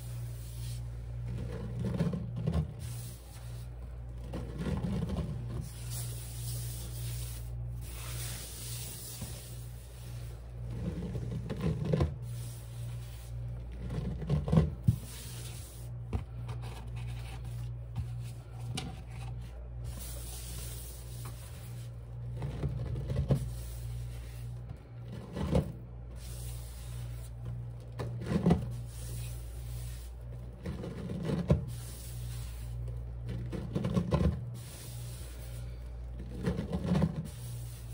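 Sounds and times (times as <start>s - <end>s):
hands scraping powder on sponge: 0.0s - 37.9s
steady low hum: 0.0s - 37.9s.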